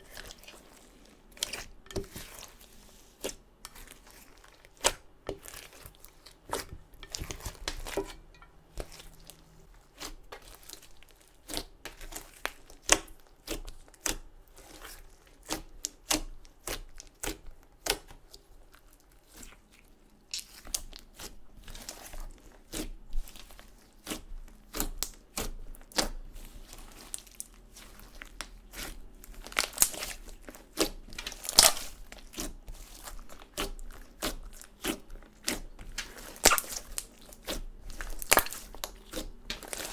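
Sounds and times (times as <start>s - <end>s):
slime kneaded by hand: 0.0s - 39.9s.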